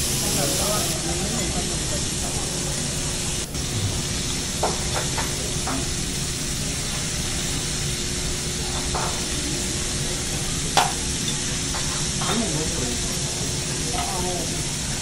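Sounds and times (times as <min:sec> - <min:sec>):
steak sizzling on a griddle: 0:00.0 - 0:02.6, 0:03.4 - 0:15.0.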